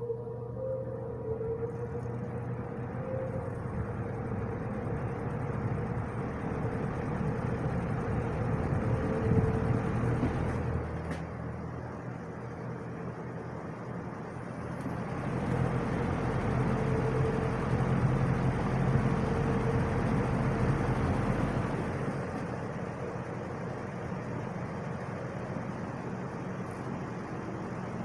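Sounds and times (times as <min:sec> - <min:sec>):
fan motor hum: 0:00.0 - 0:28.0.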